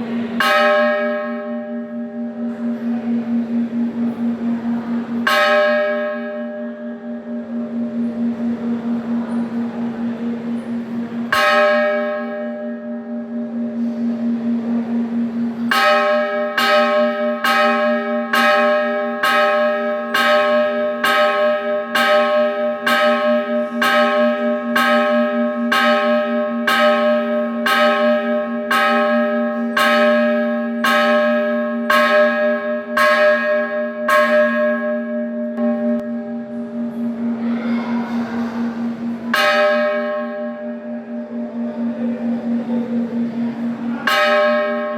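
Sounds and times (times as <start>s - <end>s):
low ringing hum: 0.0s - 44.9s
temple bell being struck: 0.0s - 44.9s.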